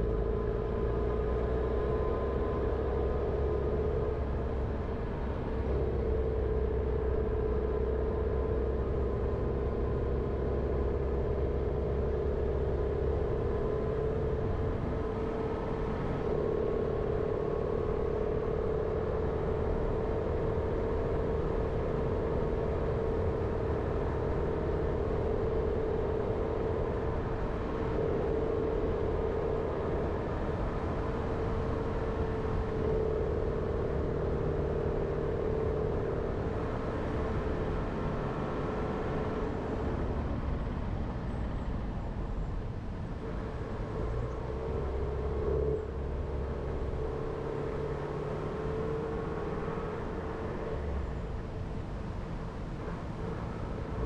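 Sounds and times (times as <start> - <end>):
car engine and road noise: 0.0 - 54.0
deep rumble: 0.0 - 54.0.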